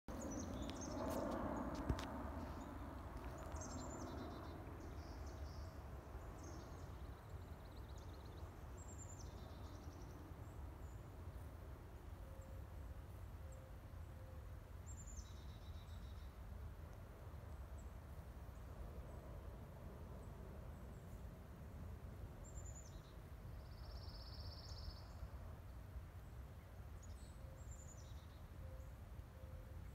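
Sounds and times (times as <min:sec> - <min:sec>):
songbird singing: 0:00.1 - 0:16.6, 0:20.2 - 0:29.9.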